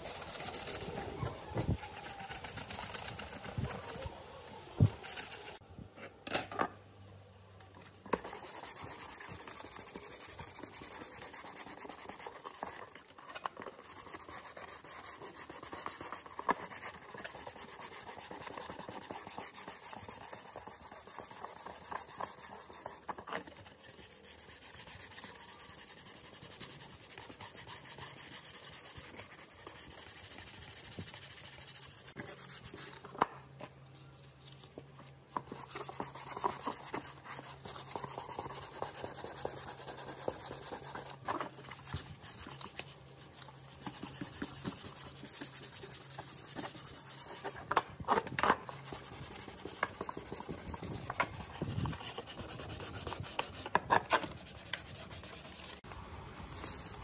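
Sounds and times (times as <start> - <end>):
sandpaper rubbing strokes: 0.0 - 4.1, 4.8 - 5.6, 8.1 - 33.0, 35.4 - 47.6, 48.7 - 57.0.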